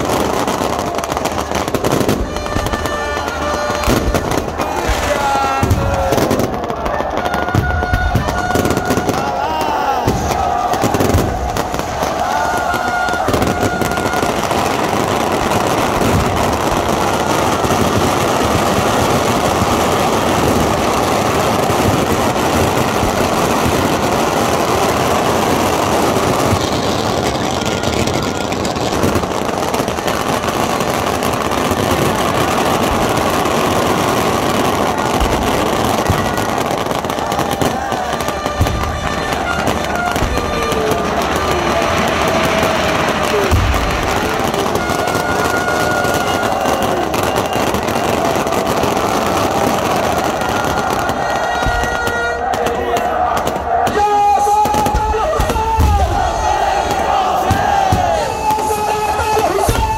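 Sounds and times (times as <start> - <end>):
fireworks crackling and banging: 0.0 - 59.9.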